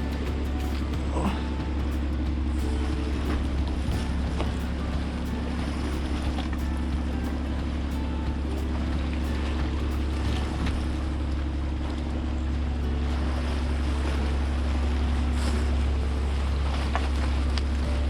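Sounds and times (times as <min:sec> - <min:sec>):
low humming drone: 0:00.0 - 0:18.0
surf: 0:00.0 - 0:18.0
wind: 0:00.0 - 0:18.0.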